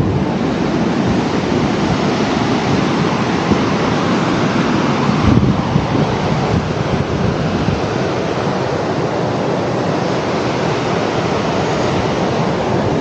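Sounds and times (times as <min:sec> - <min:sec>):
surf breaking on beach: 0:00.0 - 0:13.0
wind gusting on microphone: 0:00.0 - 0:13.0.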